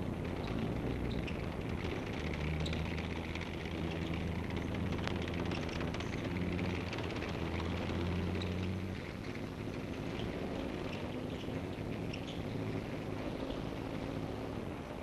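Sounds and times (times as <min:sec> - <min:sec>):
old film soundtrack hiss: 0:00.0 - 0:15.0
vehicle engine droning: 0:00.0 - 0:15.0.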